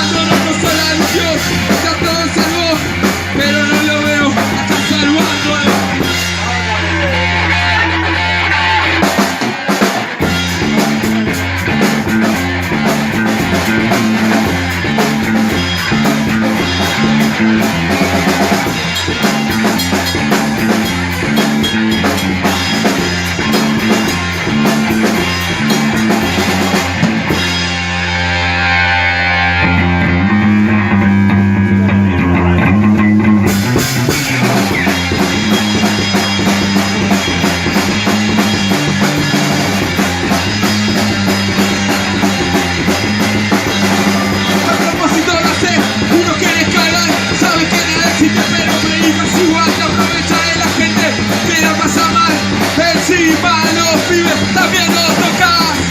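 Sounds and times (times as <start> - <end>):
bass guitar: 0.0 - 55.9
drum kit: 0.0 - 55.9
electric guitar: 0.0 - 55.9.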